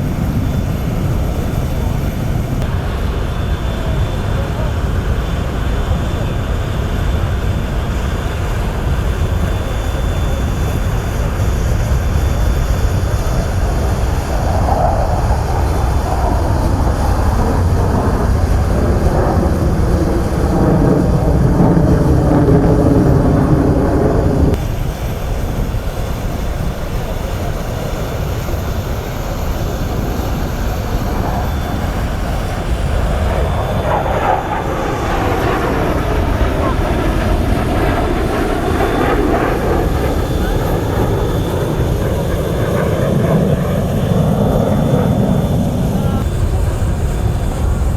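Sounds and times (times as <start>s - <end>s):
fighter jets flying: 0.0s - 47.9s.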